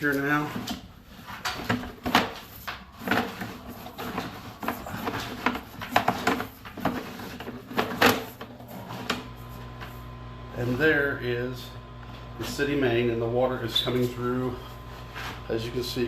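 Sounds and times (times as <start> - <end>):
steady low hum: 1.6 - 16.0.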